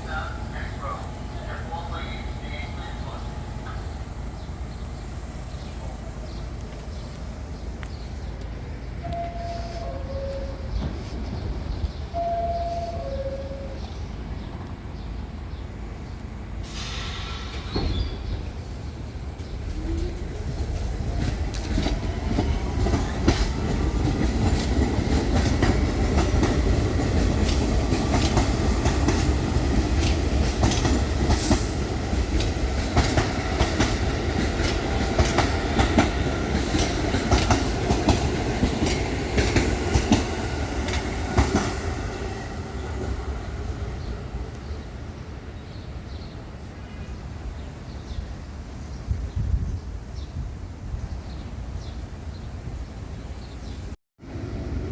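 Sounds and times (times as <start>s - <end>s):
subway train rumble: 0.0s - 54.9s.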